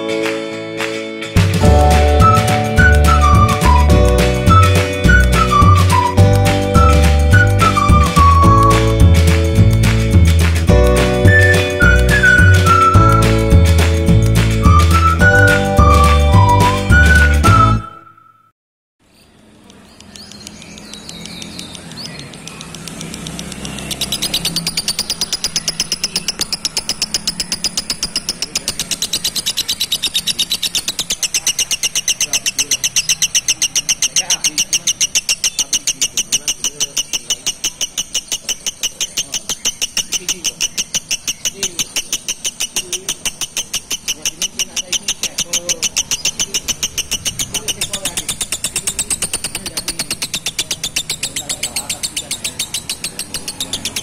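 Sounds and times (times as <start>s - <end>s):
lovebird chirping: 1.6s - 18.4s, 19.0s - 54.0s.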